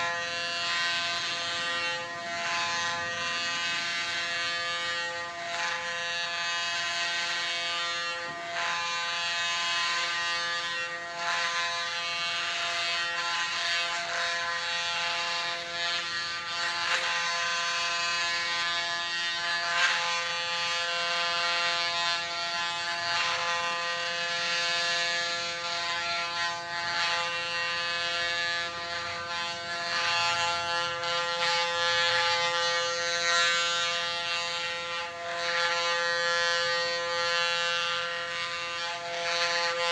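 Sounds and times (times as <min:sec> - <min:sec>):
blade scratching through hair: 0:00.0 - 0:39.9
electric hair clippers buzzing: 0:00.0 - 0:39.9.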